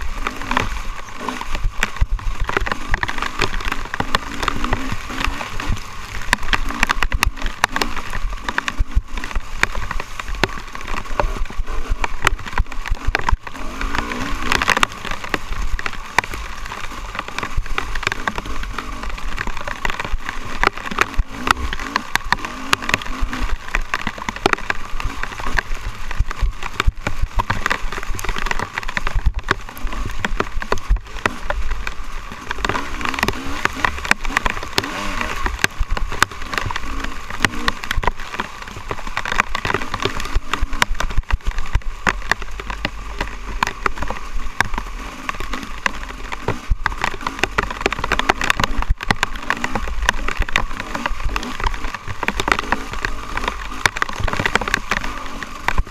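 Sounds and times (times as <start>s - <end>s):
dirt bike engine revving: 0.0s - 41.0s, 44.2s - 55.9s
knocks from rough ground: 0.0s - 55.9s
rain pattering: 0.0s - 55.9s.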